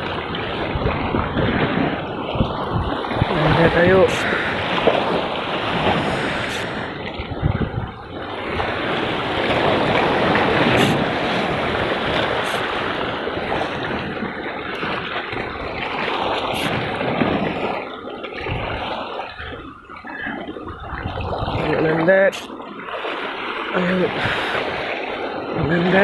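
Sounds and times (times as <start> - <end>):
surf washing over rocks: 0.0 - 26.0
wind on microphone: 0.0 - 26.0.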